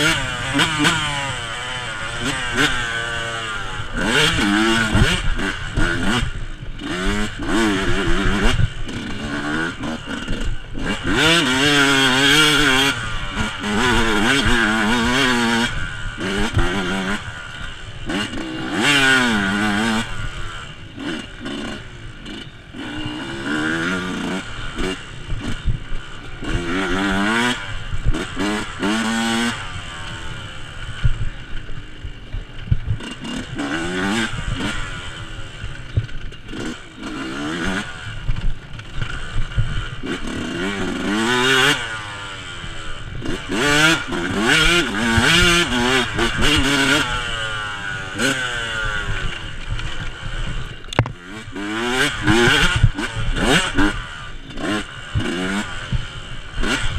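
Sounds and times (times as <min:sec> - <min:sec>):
two-stroke engine revving: 0:00.0 - 0:56.9.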